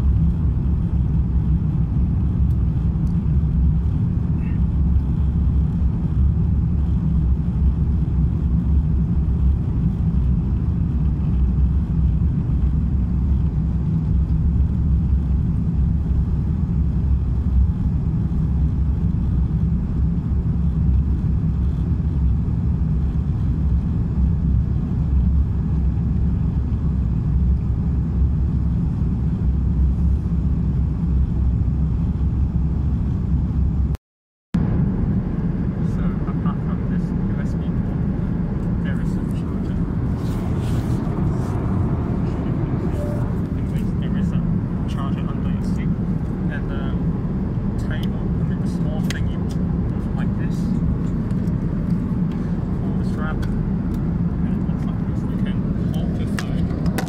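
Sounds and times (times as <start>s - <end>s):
airplane cabin engine rumble: 0.0s - 34.0s, 34.6s - 57.0s.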